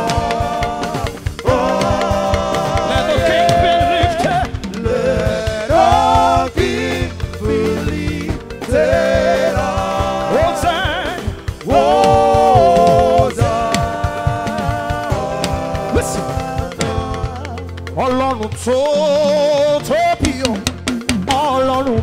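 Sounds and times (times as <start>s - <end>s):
person singing with vibrato: 0.0s - 20.6s
band with bass and drums: 0.0s - 22.0s.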